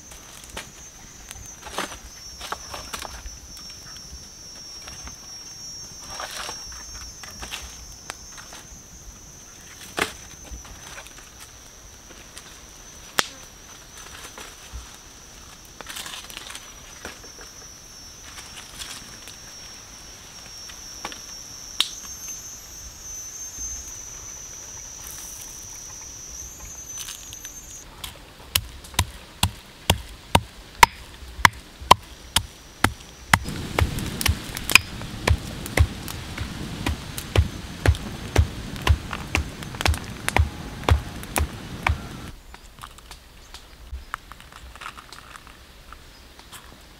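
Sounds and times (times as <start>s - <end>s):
high insect trill: 0.0s - 27.9s, 29.4s - 42.4s
wood fire burning: 0.0s - 45.6s.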